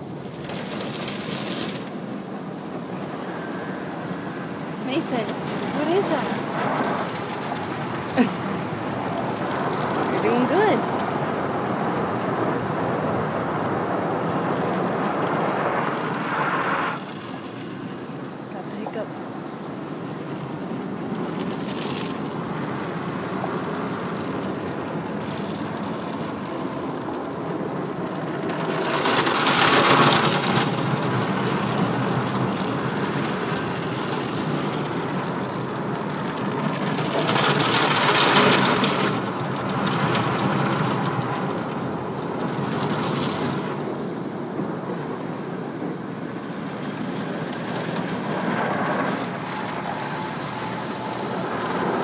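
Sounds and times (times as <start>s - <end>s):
water drumming on car: 4.6s - 16.4s, 19.7s - 52.0s.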